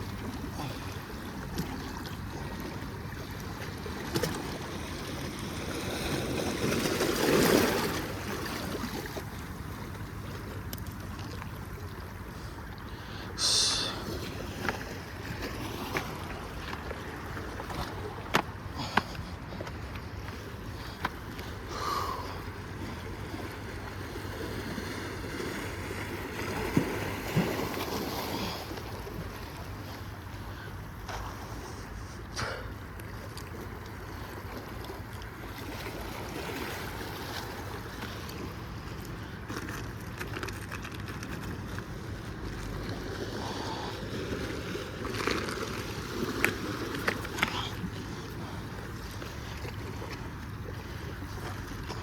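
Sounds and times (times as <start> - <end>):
water sounds: 0.0 - 52.0.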